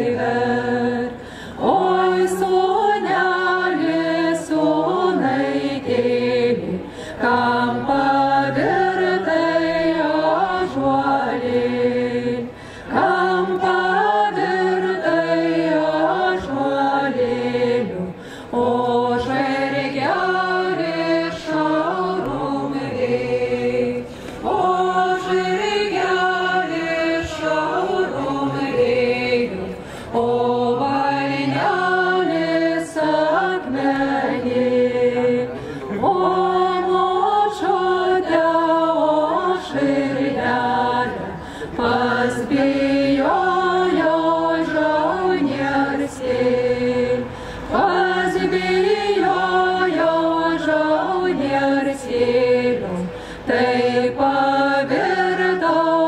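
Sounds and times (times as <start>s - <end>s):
group singing folk song: 0.0s - 56.0s.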